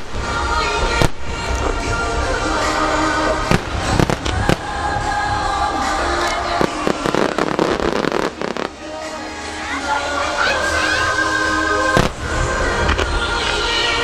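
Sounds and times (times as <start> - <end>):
fireworks bursting with bangs: 0.0 - 9.5, 11.9 - 14.0
music with held notes: 0.0 - 14.0.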